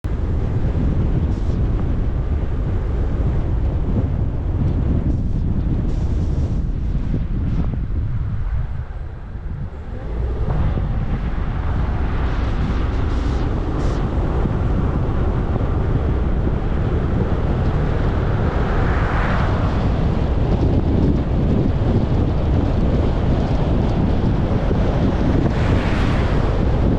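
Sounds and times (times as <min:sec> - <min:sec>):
road and tyre rumble: 0:00.0 - 0:26.9
wind buffeting microphone: 0:00.0 - 0:26.9.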